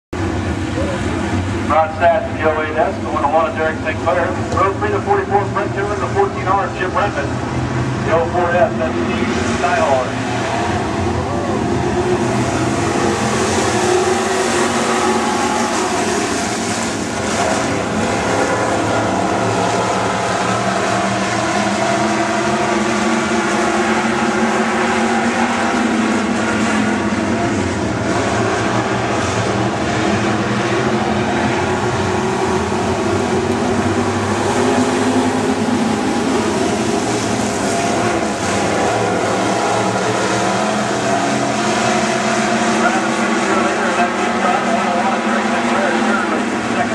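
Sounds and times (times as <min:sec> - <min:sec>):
racing car engines: 0:00.2 - 0:46.9.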